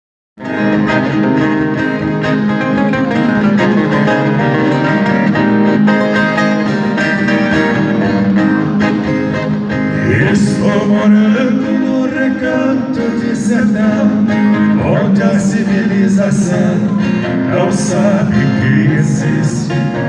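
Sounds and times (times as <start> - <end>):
plucked guitar melody: 0.4 - 20.0.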